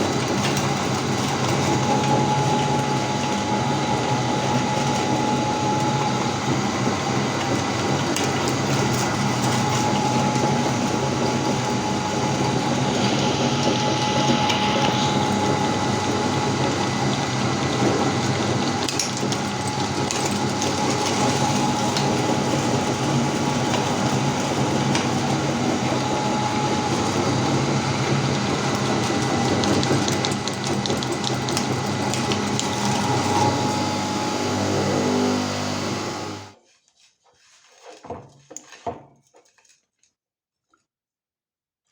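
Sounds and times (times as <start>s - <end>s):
meat grinder running: 0.0s - 36.6s.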